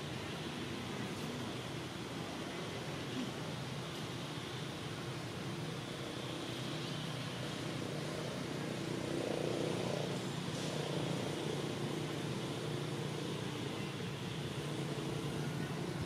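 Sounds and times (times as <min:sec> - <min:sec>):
motor traffic hum: 0:00.0 - 0:16.0.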